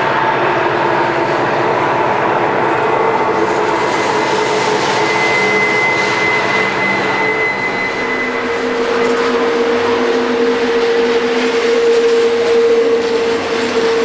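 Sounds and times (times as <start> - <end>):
train passing close by: 0.0 - 14.0.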